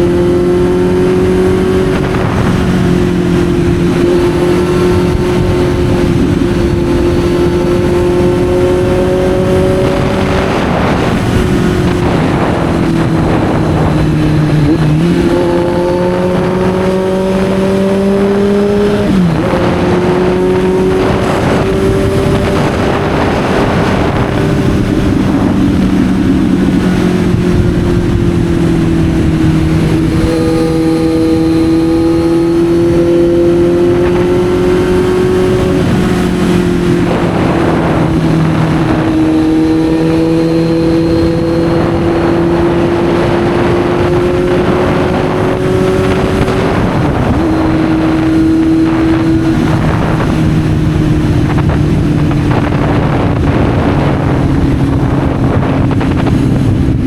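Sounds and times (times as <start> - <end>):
motorcycle engine under way: 0.0 - 57.0
wind noise: 0.0 - 57.0.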